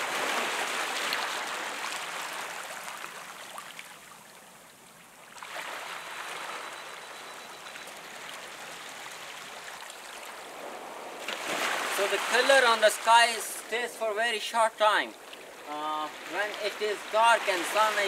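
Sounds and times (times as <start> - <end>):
small waves washing over sand: 0.0 - 18.0.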